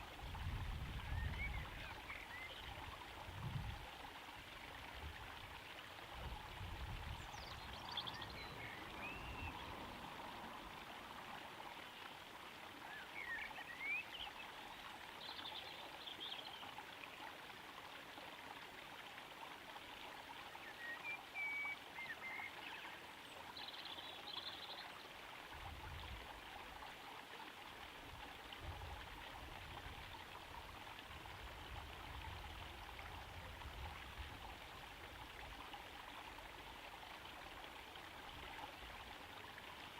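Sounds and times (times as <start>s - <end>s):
waterfall trickling into pond: 0.0s - 39.9s.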